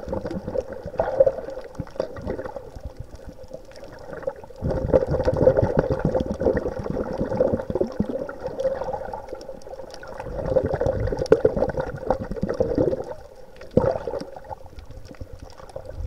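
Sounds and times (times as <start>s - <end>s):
water sloshing and gurgling: 0.0s - 16.0s.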